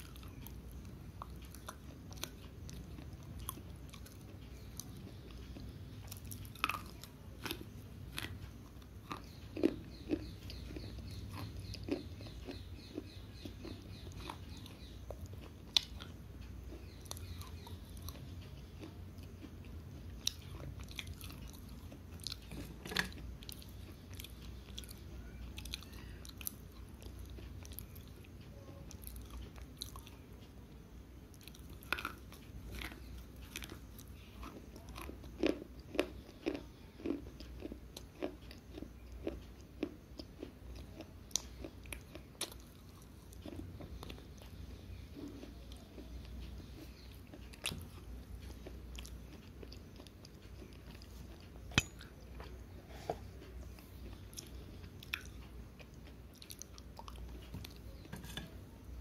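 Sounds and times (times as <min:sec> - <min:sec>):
chewing crunchy slate pencils: 0:00.0 - 0:30.6, 0:31.2 - 0:59.0.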